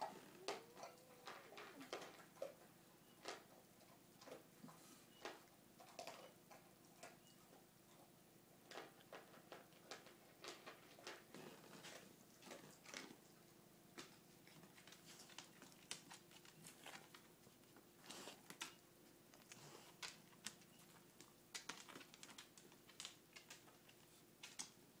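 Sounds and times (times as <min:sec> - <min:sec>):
faint clicks and scratches: 0:00.0 - 0:24.8.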